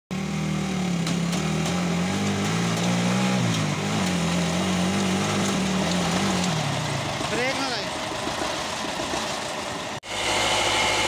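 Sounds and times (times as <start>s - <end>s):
tractor diesel engine running: 0.1s - 11.0s.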